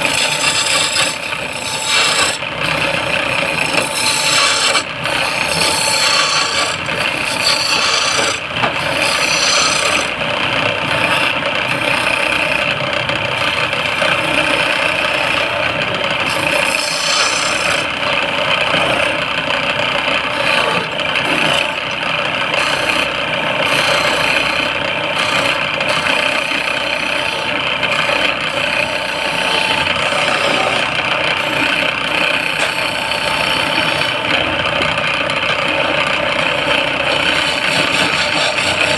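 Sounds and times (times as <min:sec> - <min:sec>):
tool scraping spinning wood: 0:00.0 - 0:38.9
wood lathe motor hum: 0:00.0 - 0:38.9.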